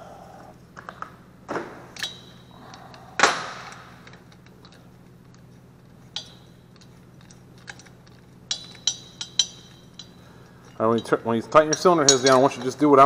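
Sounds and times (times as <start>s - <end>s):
metal bolts clinking: 2.0s - 13.0s.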